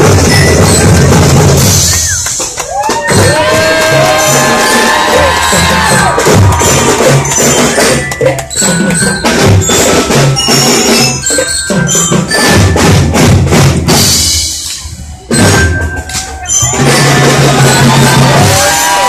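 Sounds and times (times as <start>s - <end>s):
drums beating: 0.0s - 19.0s
mallet bells melody: 0.0s - 19.0s.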